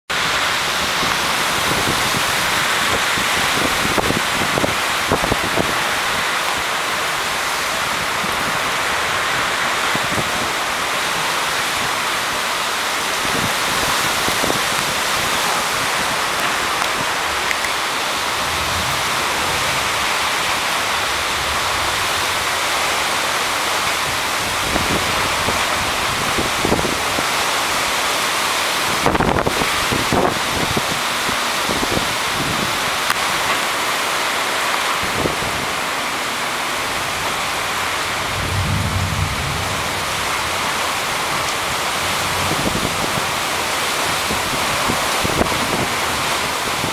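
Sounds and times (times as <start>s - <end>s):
gusting wind: 0.1s - 46.9s
heavy rain: 0.1s - 46.9s
wind buffeting microphone: 0.2s - 12.4s, 13.0s - 28.0s, 28.8s - 36.0s, 36.6s - 46.9s.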